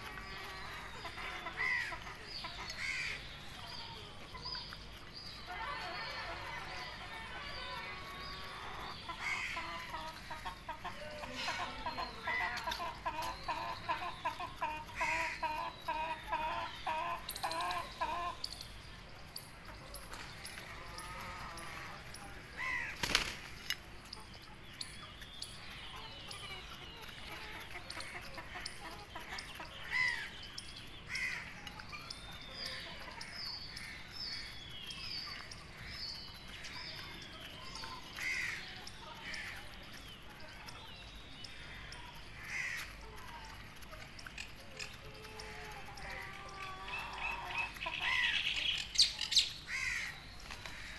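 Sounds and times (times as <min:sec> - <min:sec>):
young chickens clucking and calling: 0:00.0 - 0:50.9.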